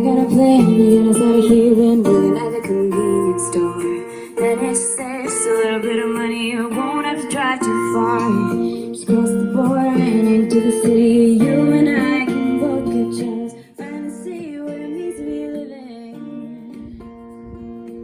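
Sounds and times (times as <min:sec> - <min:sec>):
fingerpicked acoustic guitar: 0:00.0 - 0:18.0
woman singing: 0:00.0 - 0:18.0.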